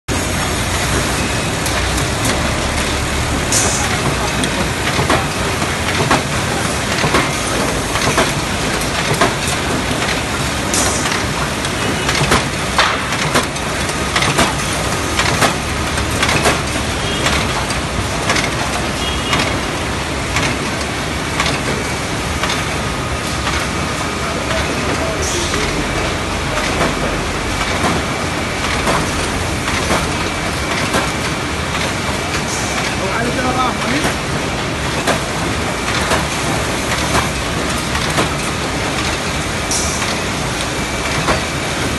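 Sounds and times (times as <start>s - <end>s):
sharp machine knock: 0.1s - 23.8s, 24.5s - 40.4s, 41.0s - 41.9s
machinery clattering: 0.1s - 41.9s.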